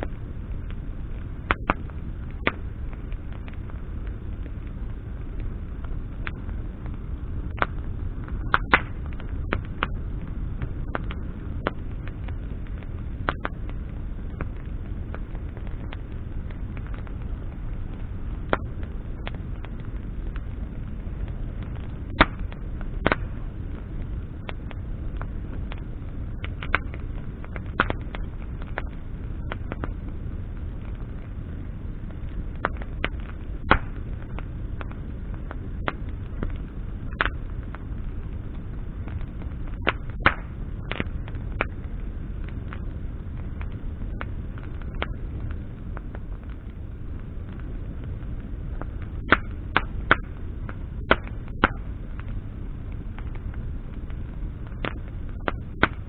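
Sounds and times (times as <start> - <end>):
campfire crackling and popping: 0.0 - 56.0
fire low rumble: 0.0 - 56.0.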